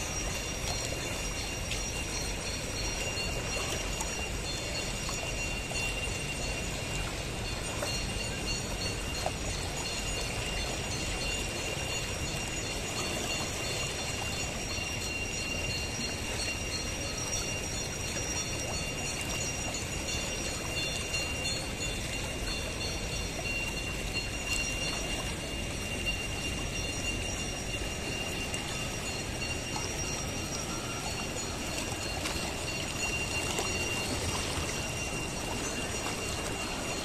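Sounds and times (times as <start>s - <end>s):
turbulent water rushing: 0.0s - 37.0s.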